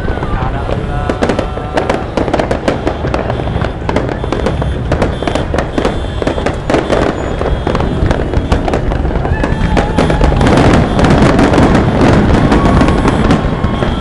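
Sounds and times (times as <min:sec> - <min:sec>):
fireworks cracks and bangs: 0:00.0 - 0:14.0.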